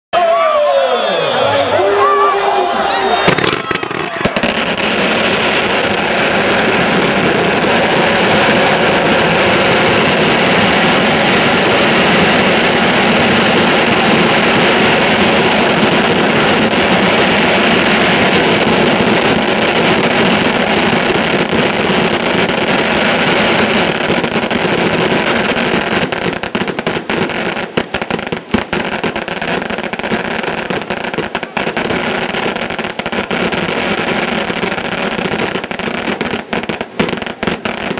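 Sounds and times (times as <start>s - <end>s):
fireworks bangs and crackling: 3.1s - 37.9s.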